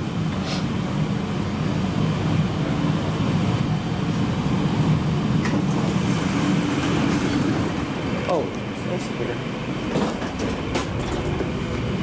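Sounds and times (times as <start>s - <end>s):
people-mover train humming: 0.0s - 12.0s.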